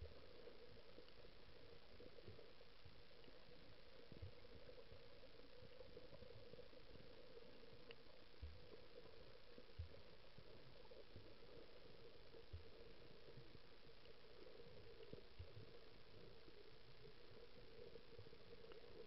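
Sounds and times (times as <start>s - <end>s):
low underwater hum: 0.0s - 19.0s.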